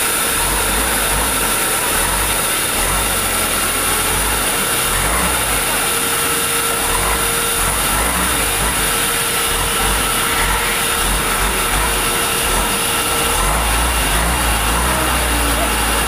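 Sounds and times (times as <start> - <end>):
band saw running with whine: 0.0 - 16.0.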